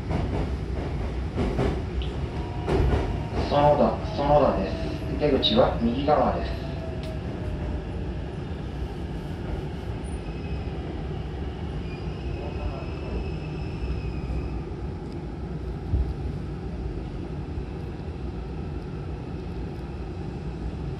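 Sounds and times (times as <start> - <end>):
train low rumble: 0.0 - 20.9.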